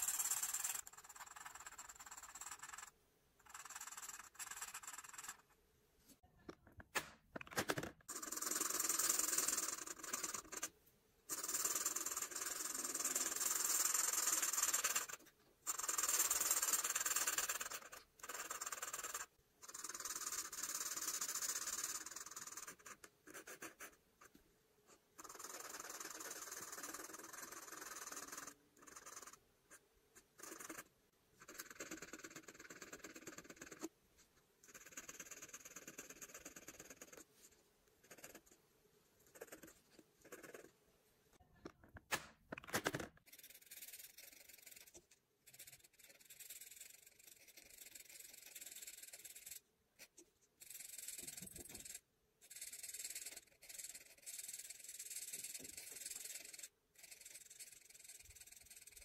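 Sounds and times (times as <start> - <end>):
marker rubbing across paper: 0.0 - 5.6, 7.8 - 10.7, 11.3 - 33.9, 34.6 - 38.6, 39.2 - 40.7, 43.2 - 59.0.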